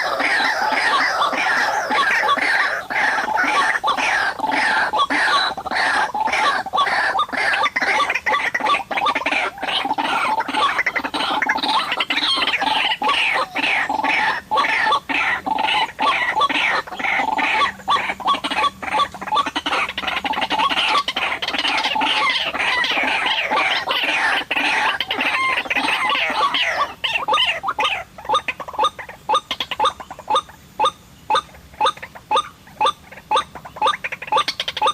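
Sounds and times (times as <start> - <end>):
waterhen harsh croaking calls: 0.0 - 34.9.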